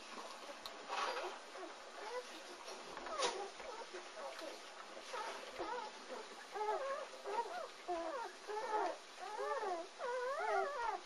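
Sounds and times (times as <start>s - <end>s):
puppies whining and squealing: 0.9s - 11.0s.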